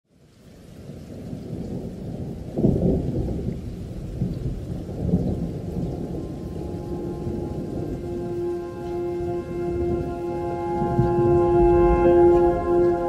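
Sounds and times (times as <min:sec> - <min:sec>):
rain: 0:00.0 - 0:13.0
rolling thunder: 0:00.7 - 0:13.0.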